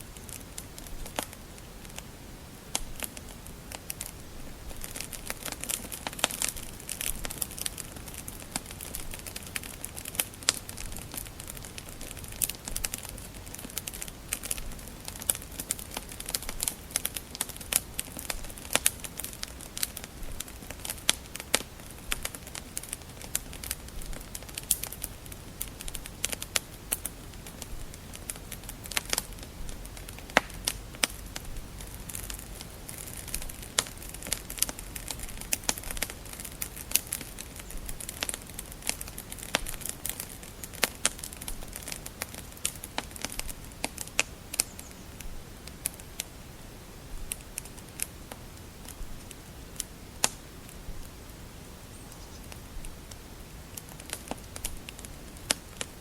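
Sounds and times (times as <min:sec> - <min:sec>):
low rumble of burning logs: 0:00.0 - 0:56.0
wood fire crackling and popping: 0:00.0 - 0:56.0.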